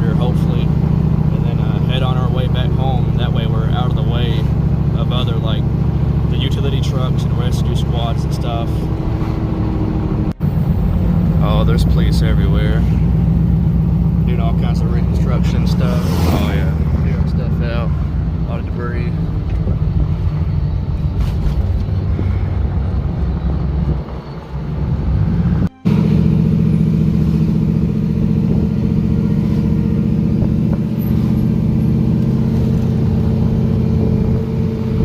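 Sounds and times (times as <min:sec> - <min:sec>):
car engine drone: 0:00.0 - 0:35.0
road noise inside vehicle: 0:00.0 - 0:35.0.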